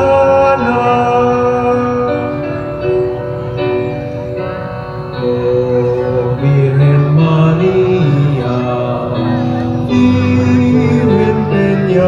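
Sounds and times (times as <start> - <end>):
devotional hymn with long notes: 0.0 - 12.0.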